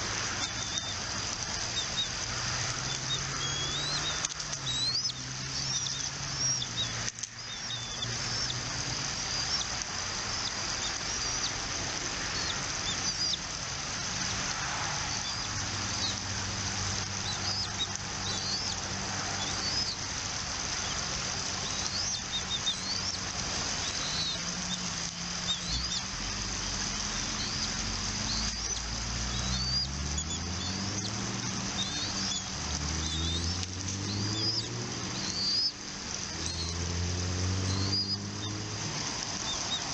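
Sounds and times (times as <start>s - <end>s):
bird chirping: 0.4s - 11.6s, 12.2s - 13.5s, 17.0s - 20.1s, 21.6s - 38.7s.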